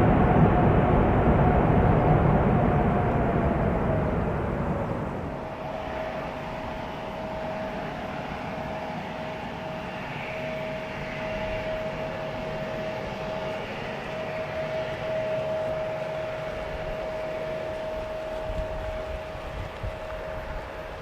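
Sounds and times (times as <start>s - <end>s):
distant jet engines whining: 0.0s - 21.0s.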